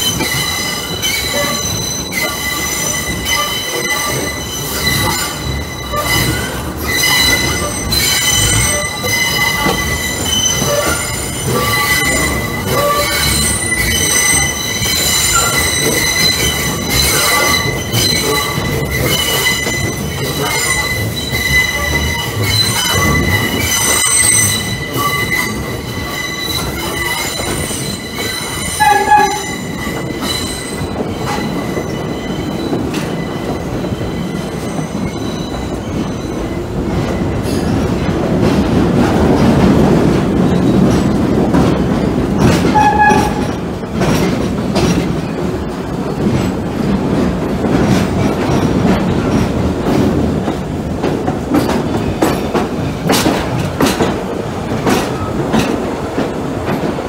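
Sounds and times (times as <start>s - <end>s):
train rumble and rail clatter: 0.0s - 57.0s
train wheels squealing on rails: 0.0s - 57.0s.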